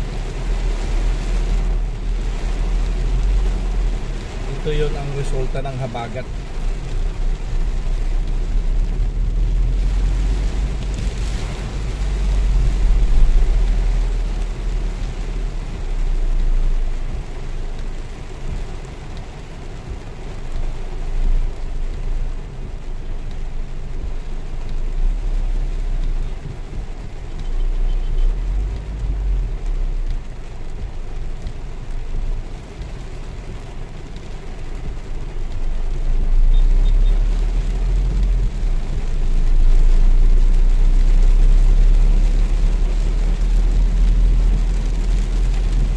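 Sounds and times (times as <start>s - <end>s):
car engine low rumble: 0.0s - 45.9s
heavy rain on car roof: 0.0s - 45.9s.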